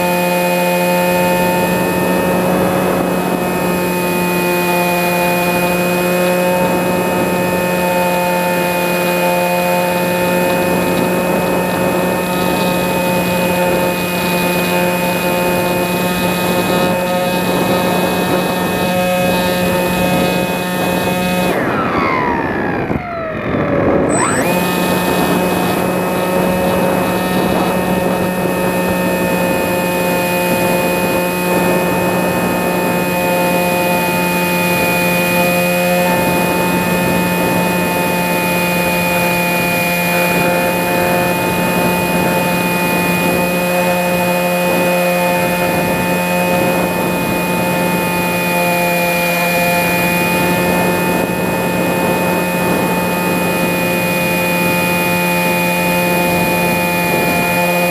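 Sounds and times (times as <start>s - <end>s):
electric motor whine: 0.0s - 57.9s.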